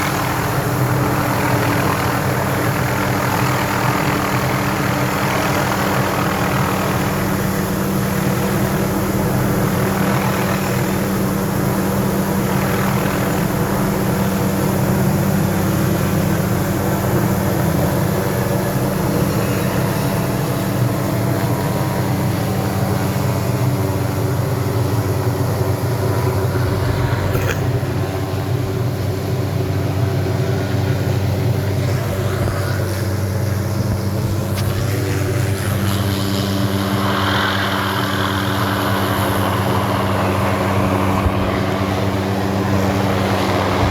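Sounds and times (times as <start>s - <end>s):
engine drone: 0.0s - 43.9s.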